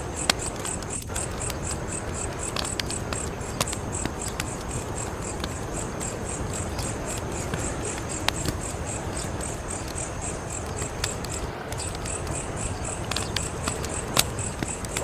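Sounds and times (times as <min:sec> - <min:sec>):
cricket chirping: 0:00.0 - 0:15.0
fire crackles and pops: 0:00.0 - 0:15.0
wood fire burning: 0:00.0 - 0:15.0.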